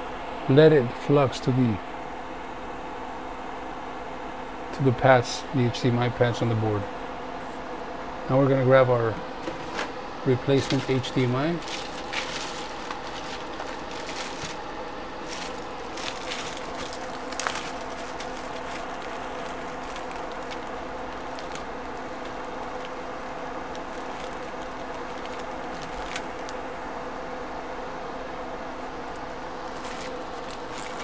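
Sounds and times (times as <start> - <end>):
extractor fan whirring: 0.0 - 31.0.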